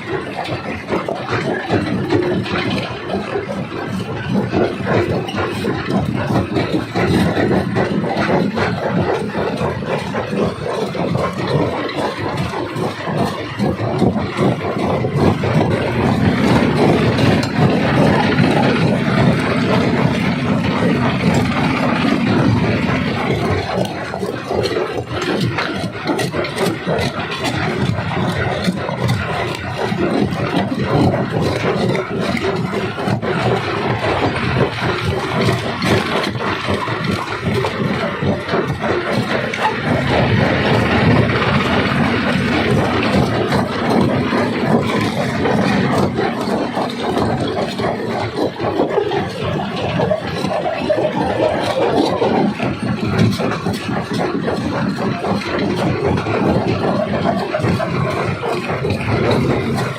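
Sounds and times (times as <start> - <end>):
rock crusher rumbling: 0.0 - 59.9.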